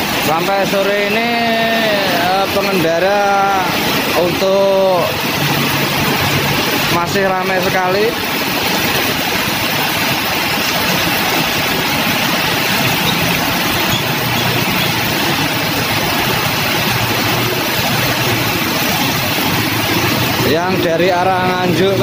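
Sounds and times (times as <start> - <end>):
heavy rain: 0.0 - 22.0
splashing water: 0.0 - 22.0
vehicle engines: 0.0 - 22.0.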